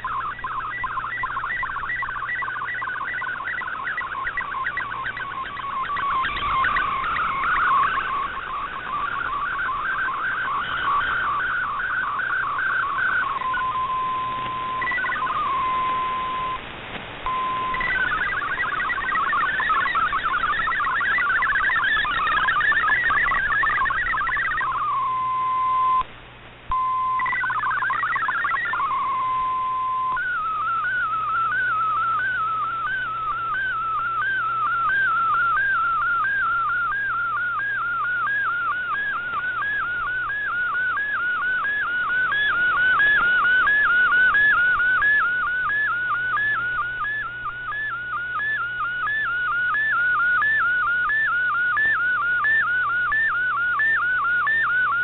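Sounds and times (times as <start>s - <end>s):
regular warbling chirp: 0.0s - 16.6s, 17.2s - 26.0s, 26.8s - 55.0s
hopping digital data tones: 0.0s - 26.1s, 26.7s - 55.0s.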